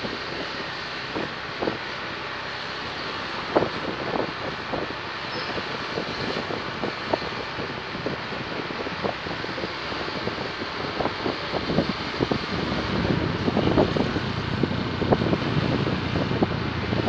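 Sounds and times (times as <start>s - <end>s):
vehicle running: 0.0s - 17.0s
wind buffeting microphone: 0.0s - 17.0s.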